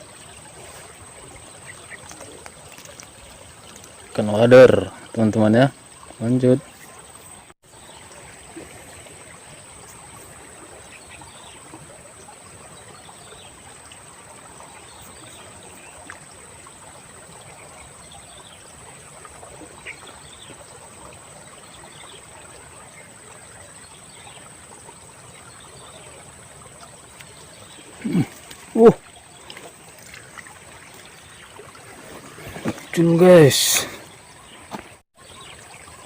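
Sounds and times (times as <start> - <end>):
stream flowing: 0.0 - 36.0.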